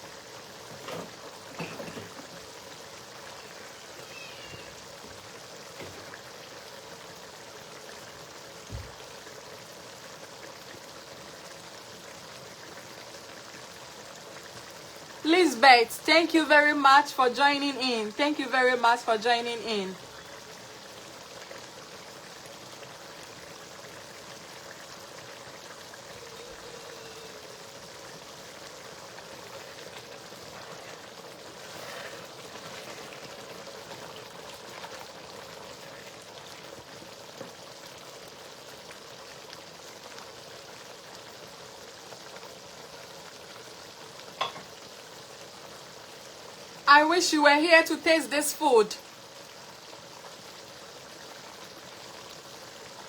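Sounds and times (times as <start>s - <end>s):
stew sizzling in a pot: 0.0s - 53.0s.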